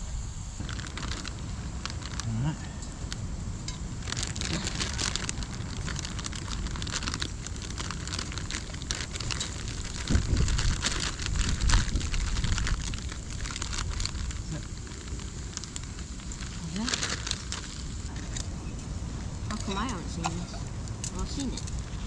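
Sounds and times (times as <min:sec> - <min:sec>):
low rumble: 0:00.0 - 0:22.0
wood fire crackling and popping: 0:00.0 - 0:22.0.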